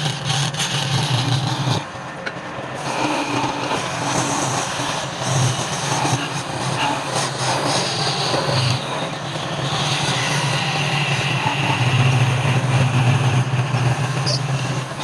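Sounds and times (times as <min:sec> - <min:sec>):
wood lathe running: 0:00.0 - 0:01.9, 0:02.8 - 0:15.0.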